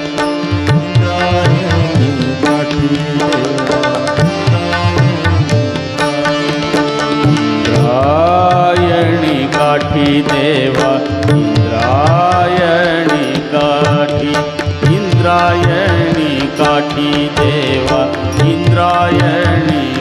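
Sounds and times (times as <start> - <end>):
tabla rhythm: 0.0 - 20.0
man singing long notes: 0.8 - 20.0.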